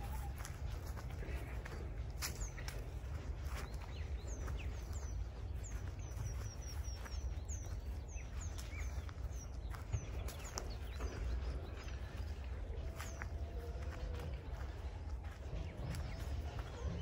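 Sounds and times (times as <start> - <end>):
songbirds chirping and singing: 0.0 - 17.0
steady low rumble: 0.0 - 17.0.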